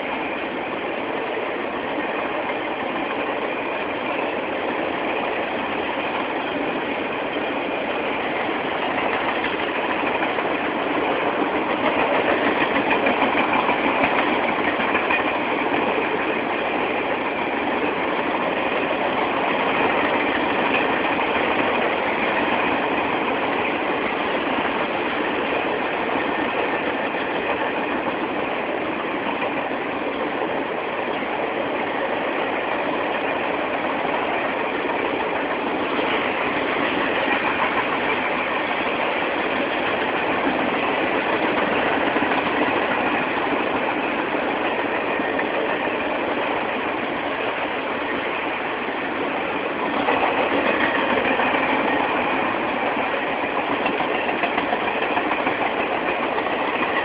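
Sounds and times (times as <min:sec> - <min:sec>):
steel wheels rolling on rails: 0:00.0 - 0:57.0.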